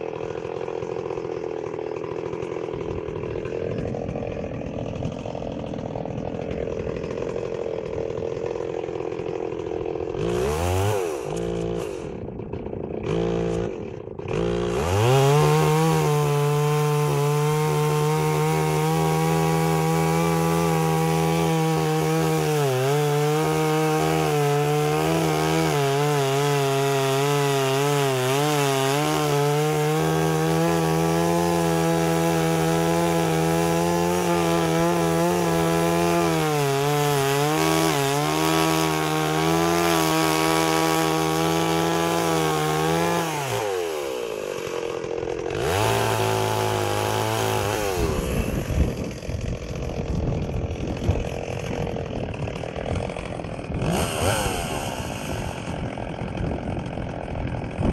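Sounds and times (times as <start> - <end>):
chainsaw cutting wood: 0.0 - 57.9.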